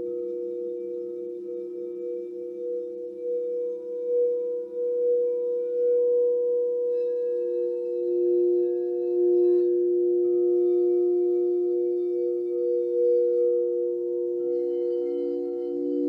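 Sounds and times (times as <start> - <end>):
crystal singing bowls ringing: 0.0 - 16.0.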